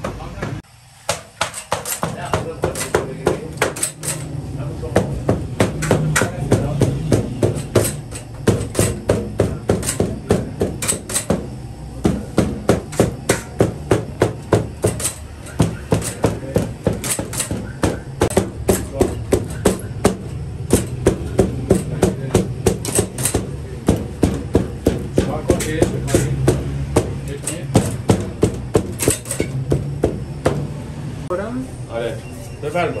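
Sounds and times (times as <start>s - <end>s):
tool knocking on dough board: 0.0s - 4.3s, 4.9s - 30.8s.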